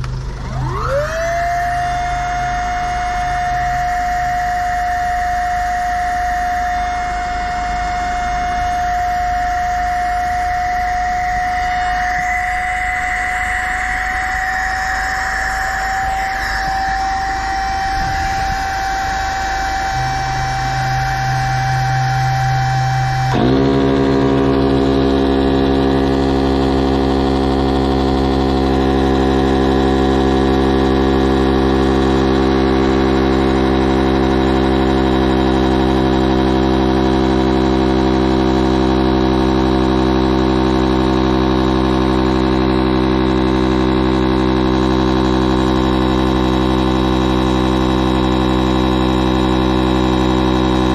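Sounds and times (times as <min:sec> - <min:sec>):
electric inflation pump running: 0:00.0 - 0:50.9.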